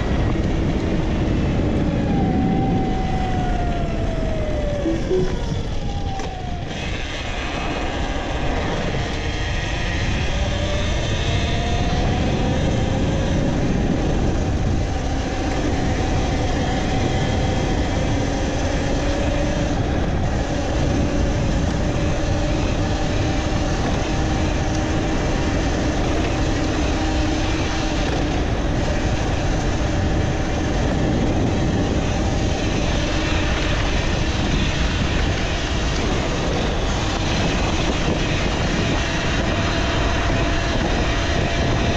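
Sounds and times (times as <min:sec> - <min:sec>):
wind and road noise rumble: 0:00.0 - 0:41.9.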